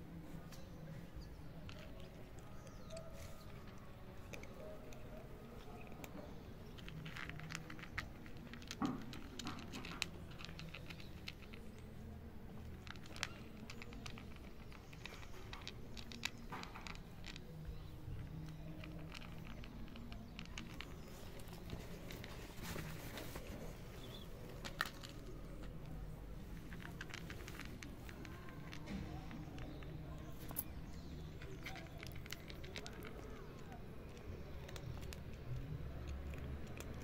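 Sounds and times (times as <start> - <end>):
cat crunching dry kibble: 1.4 - 37.0.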